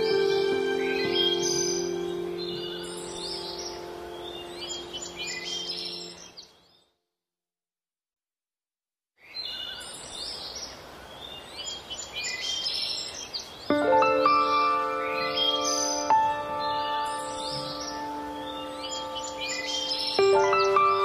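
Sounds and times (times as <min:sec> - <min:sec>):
birds chirping: 0:00.0 - 0:07.0, 0:09.2 - 0:21.0.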